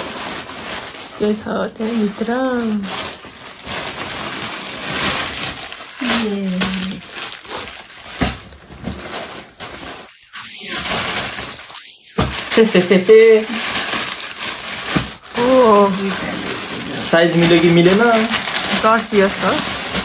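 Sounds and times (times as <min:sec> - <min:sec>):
plastic bag rustling and crinkling: 0:00.0 - 0:20.0.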